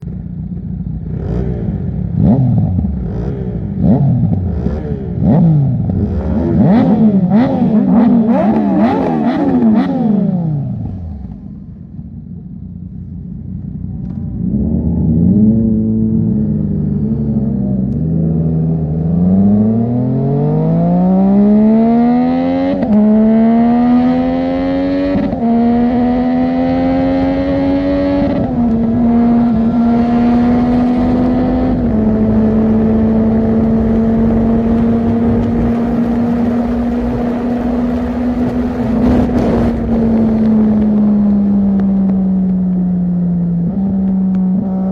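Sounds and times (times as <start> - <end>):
motorcycle accelerating and upshifting: 0.0 - 44.9
motorcycles revving: 0.0 - 44.9.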